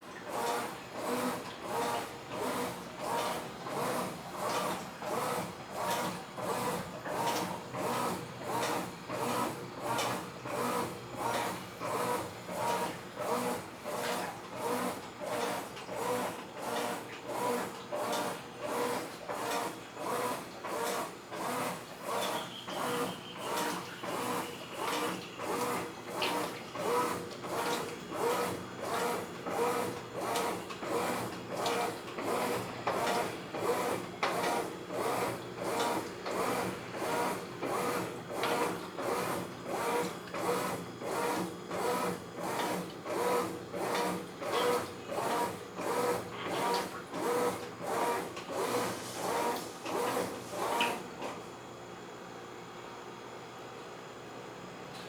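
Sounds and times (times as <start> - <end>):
washing machine humming rhythmically: 0.0 - 55.0.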